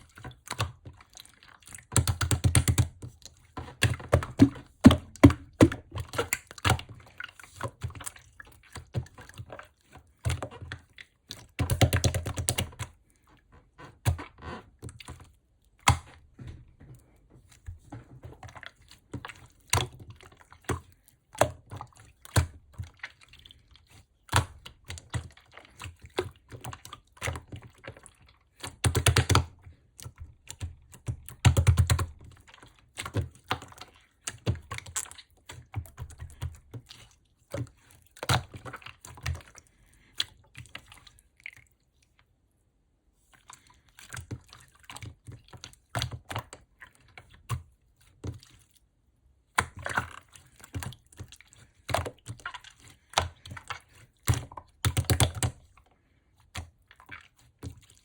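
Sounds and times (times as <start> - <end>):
hands squeezing sticky slime: 0.0 - 16.3, 16.9 - 42.4, 43.2 - 58.0.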